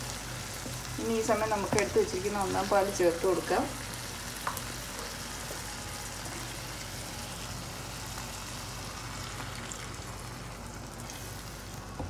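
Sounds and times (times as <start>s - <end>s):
sauce sizzling in a pan: 0.0s - 12.0s.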